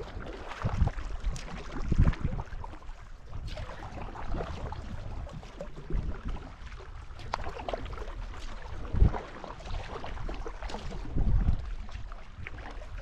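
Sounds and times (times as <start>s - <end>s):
water lapping against kayak hull: 0.0s - 13.0s
wind buffeting microphone: 0.0s - 13.0s.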